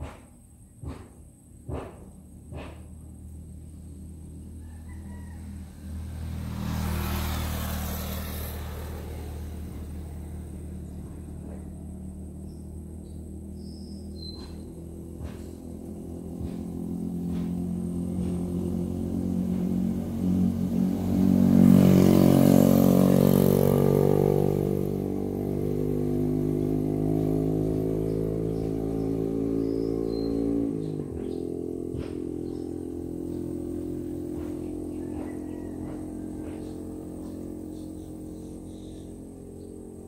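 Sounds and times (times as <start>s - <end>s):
vehicle engine passing by: 0.0s - 40.0s.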